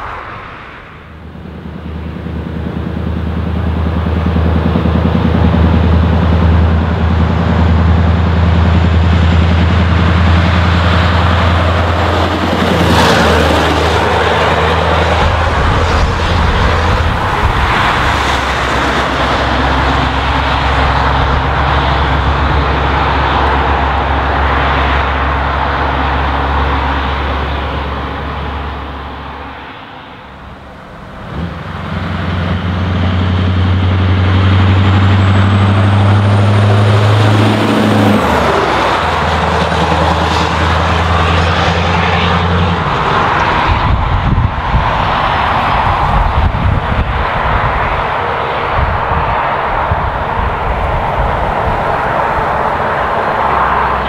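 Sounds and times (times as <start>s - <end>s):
truck diesel engine drone: 0.0s - 54.0s
truck passing rush: 0.0s - 54.0s.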